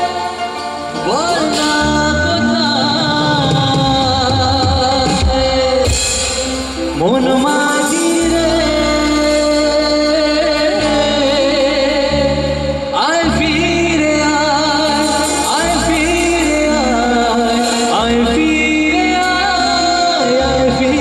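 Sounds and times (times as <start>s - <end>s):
live band playing: 0.0s - 21.0s
man singing into microphone: 0.0s - 21.0s.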